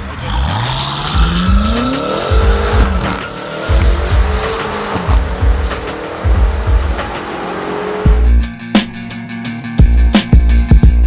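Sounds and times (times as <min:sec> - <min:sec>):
car engine revving: 0:00.0 - 0:09.2
music with heavy bass beat: 0:00.0 - 0:11.0.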